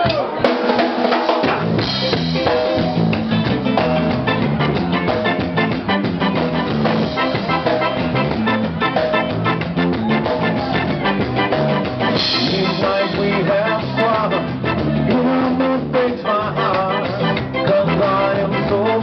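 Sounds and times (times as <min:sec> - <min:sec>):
drum kit beat: 0:00.0 - 0:19.0
live band playing doo-wop: 0:00.0 - 0:19.0
stepping bass line: 0:01.4 - 0:19.0.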